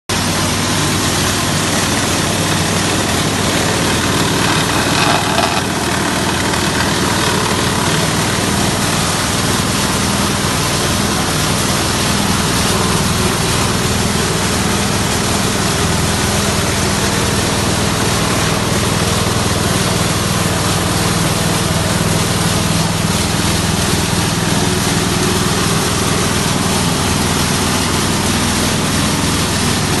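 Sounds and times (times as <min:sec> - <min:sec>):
petrol engine running: 0:00.1 - 0:30.0.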